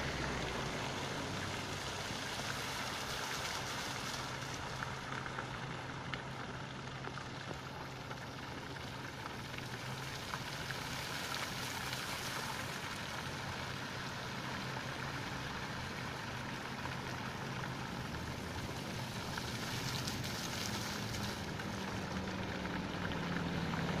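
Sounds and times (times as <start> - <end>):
fountain water splashing: 0.0 - 24.0
road traffic hum: 0.0 - 24.0.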